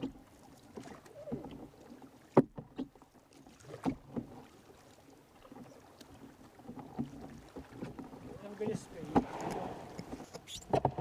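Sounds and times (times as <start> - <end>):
paddle splashes and drips: 0.0 - 11.0.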